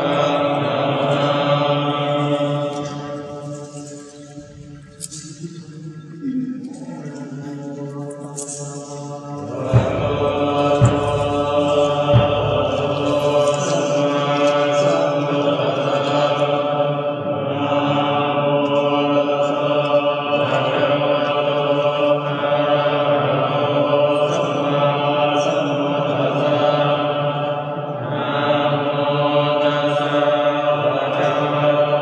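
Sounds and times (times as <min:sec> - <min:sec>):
men chanting in unison: 0:00.0 - 0:04.2, 0:06.6 - 0:32.0.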